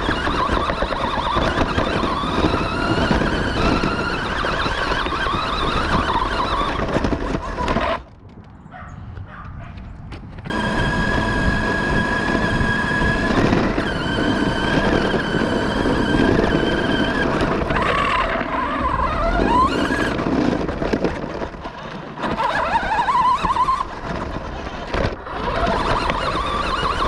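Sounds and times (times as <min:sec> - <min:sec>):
toy truck electric motor whining: 0:00.0 - 0:08.1, 0:10.5 - 0:27.0
rough rolling noise: 0:00.0 - 0:08.6, 0:09.9 - 0:27.0.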